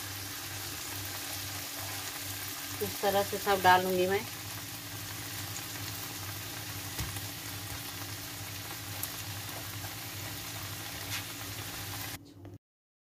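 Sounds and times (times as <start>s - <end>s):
vegetables sizzling in a wok: 0.0s - 12.2s.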